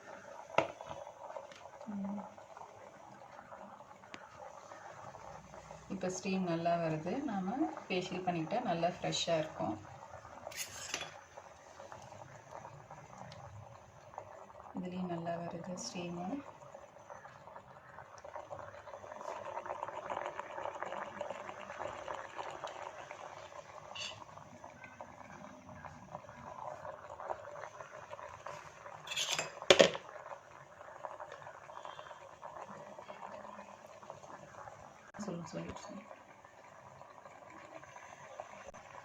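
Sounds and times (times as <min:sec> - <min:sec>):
steamer bubbling hiss: 0:00.0 - 0:39.0.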